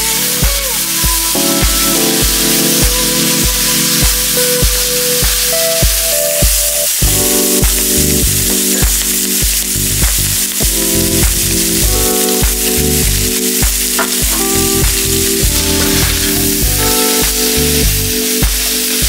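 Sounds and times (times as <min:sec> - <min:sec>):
background music with steady beat: 0:00.0 - 0:19.0
food sizzling in a wok: 0:00.0 - 0:19.0.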